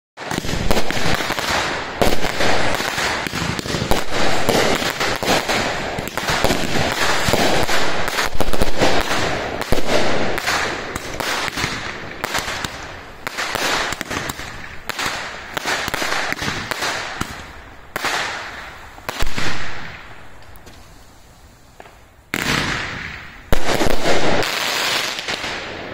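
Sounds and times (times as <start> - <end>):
fireworks bangs and crackling: 0.2 - 25.9.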